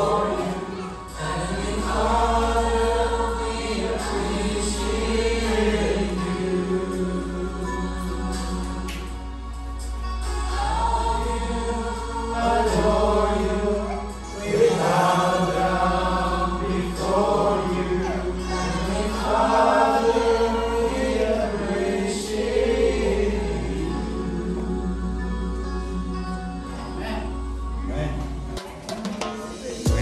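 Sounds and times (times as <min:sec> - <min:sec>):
men singing in chorus: 0:00.0 - 0:09.3, 0:10.2 - 0:27.0.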